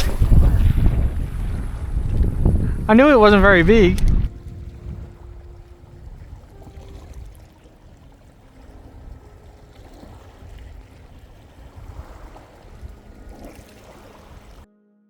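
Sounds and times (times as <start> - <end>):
water washing at shoreline: 0.0 - 14.7
wind buffeting microphone: 0.0 - 14.7.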